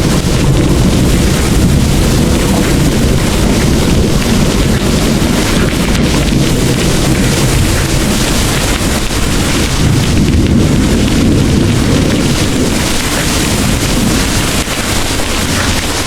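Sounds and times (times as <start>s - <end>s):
heavy rain falling: 0.0s - 16.0s
rolling thunder: 0.0s - 16.0s.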